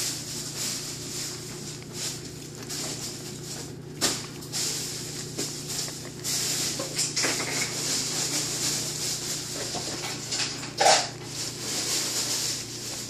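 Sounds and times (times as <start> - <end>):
dry kibble clicking and rattling: 0.0 - 13.0
steady hiss and low hum: 0.0 - 13.0.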